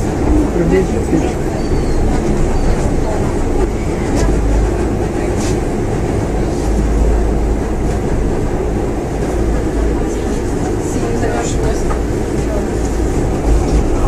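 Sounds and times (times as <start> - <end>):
monorail train rumbling: 0.0 - 14.0.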